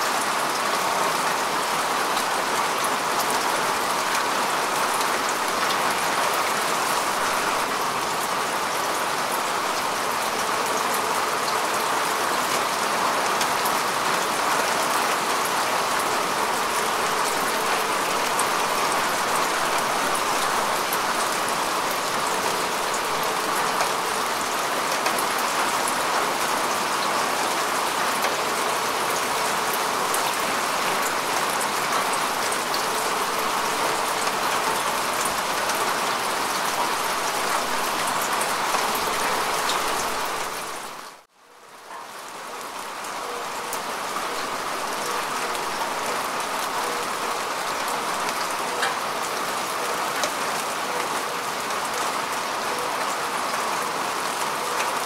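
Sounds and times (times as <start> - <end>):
rain falling on grass: 0.0 - 55.0.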